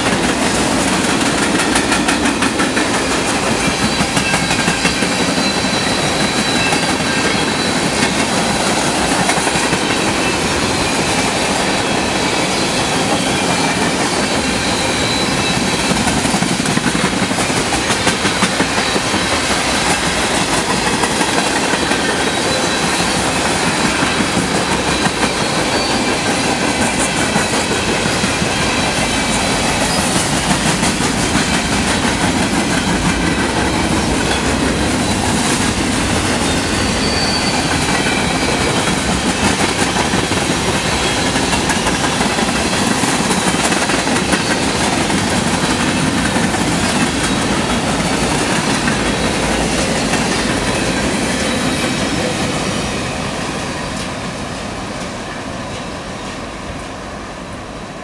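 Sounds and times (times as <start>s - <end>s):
freight train wheels clacking on rails: 0.0s - 58.0s.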